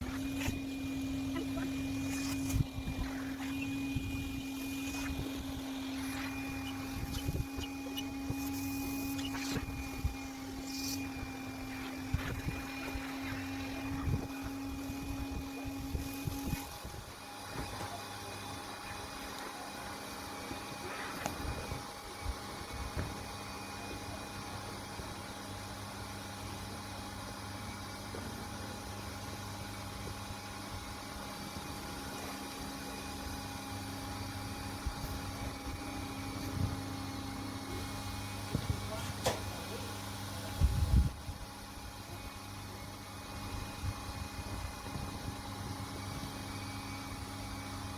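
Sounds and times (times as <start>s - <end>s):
electric air pump humming: 0.0s - 47.9s.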